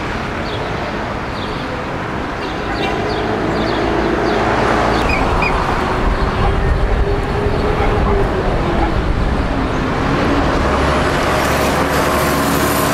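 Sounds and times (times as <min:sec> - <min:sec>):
busy street traffic: 0:00.0 - 0:12.9.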